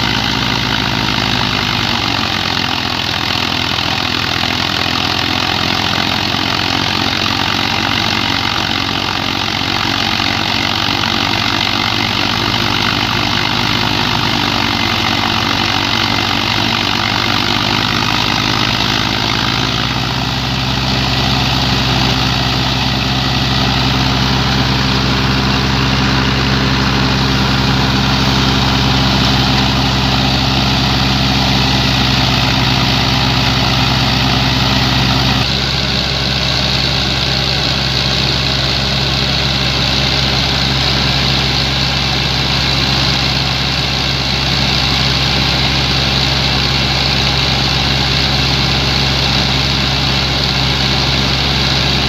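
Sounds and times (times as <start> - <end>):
threshing machine whirring: 0.0 - 52.0
tractor engine under load: 0.0 - 52.0.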